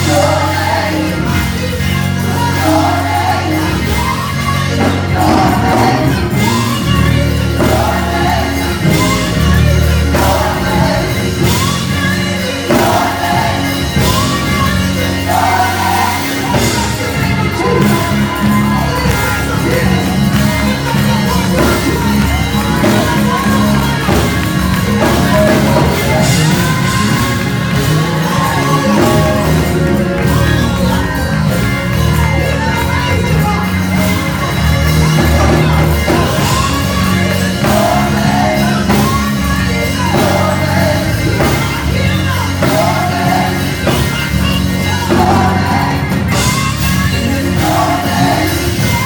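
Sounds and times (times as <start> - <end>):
gospel choir singing: 0.0 - 49.0
instrumental accompaniment: 0.0 - 49.0.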